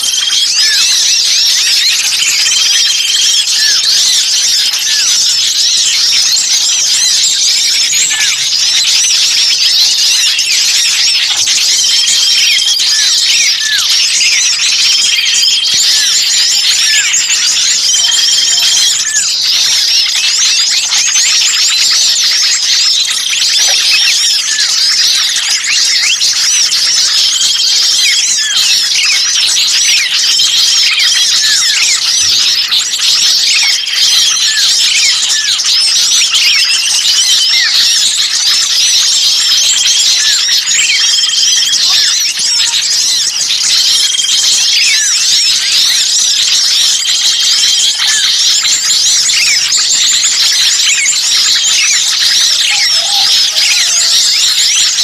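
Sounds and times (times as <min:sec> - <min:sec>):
small birds chattering: 0:00.0 - 0:55.0.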